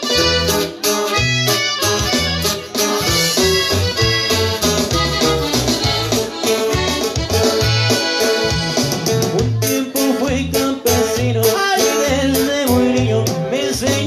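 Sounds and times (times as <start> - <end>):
bass line: 0.0 - 14.0
button accordion melody: 0.0 - 14.0
keyboard: 0.0 - 14.0.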